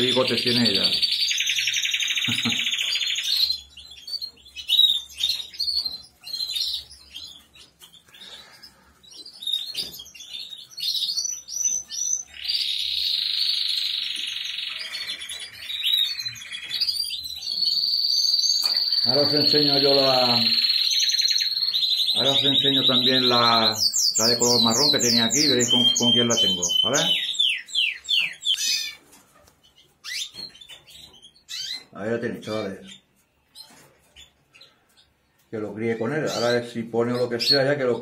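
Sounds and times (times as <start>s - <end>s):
canaries singing and trilling: 0.0s - 38.0s.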